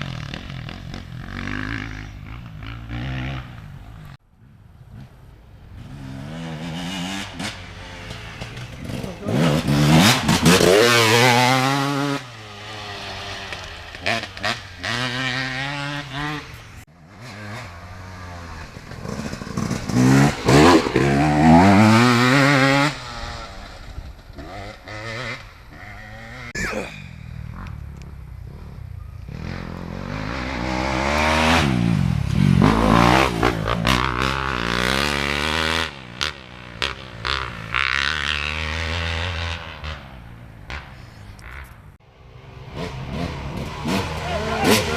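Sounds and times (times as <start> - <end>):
dirt bike engines revving: 0.0 - 4.2, 4.8 - 44.9.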